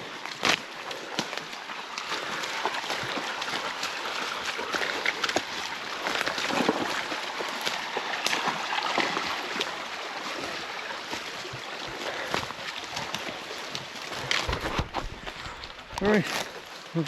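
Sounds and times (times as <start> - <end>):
footsteps crunching on trail: 0.0 - 17.0.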